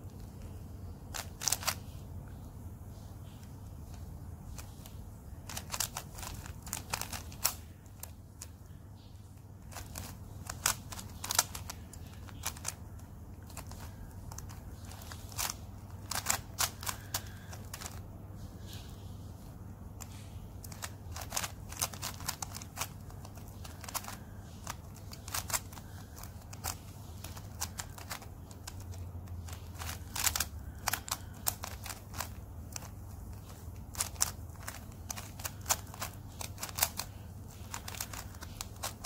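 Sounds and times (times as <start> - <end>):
low steady hum: 0.0 - 39.0
puzzle cube clicking: 1.1 - 1.8, 4.6 - 8.7, 9.6 - 18.0, 20.0 - 39.0.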